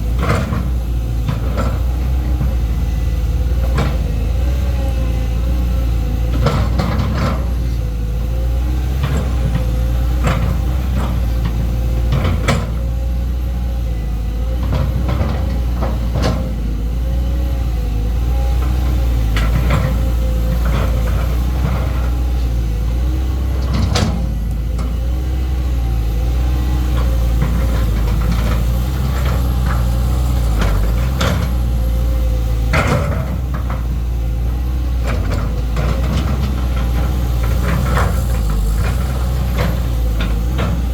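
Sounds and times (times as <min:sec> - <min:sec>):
diesel excavator engine running: 0:00.0 - 0:40.9.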